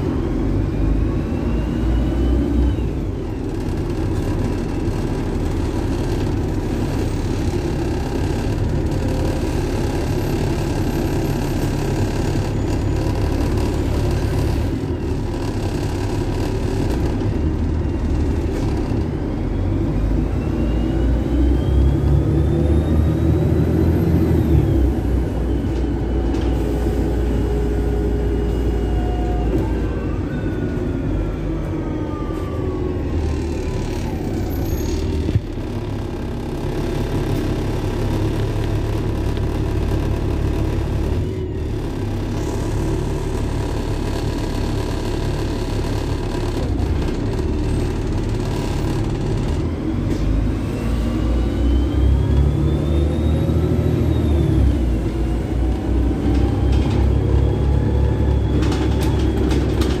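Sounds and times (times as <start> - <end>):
bus engine rumble: 0.0 - 60.0
rising engine whine: 0.0 - 60.0.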